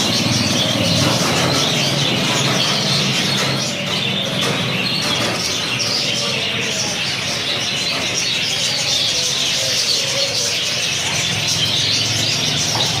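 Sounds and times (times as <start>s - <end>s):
birds chattering and chirping: 0.0s - 13.0s.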